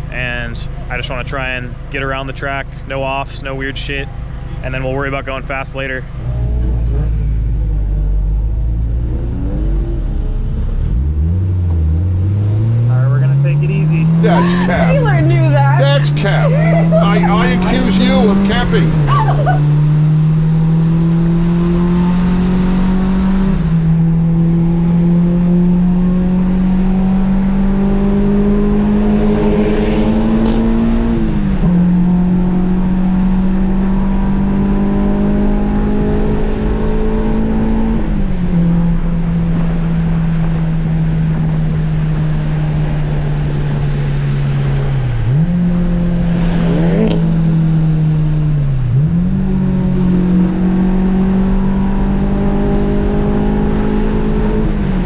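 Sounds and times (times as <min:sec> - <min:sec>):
car engine pulling at speed: 0:00.0 - 0:55.0.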